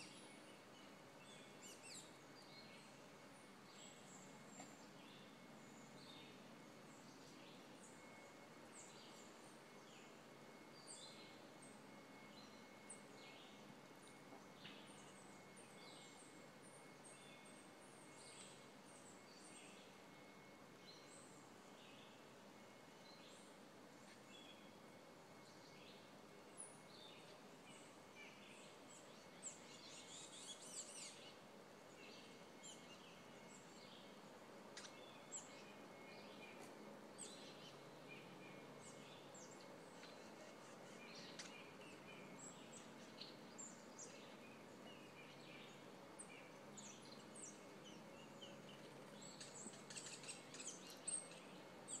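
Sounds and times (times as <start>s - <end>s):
faint birdsong: 0.0s - 52.0s.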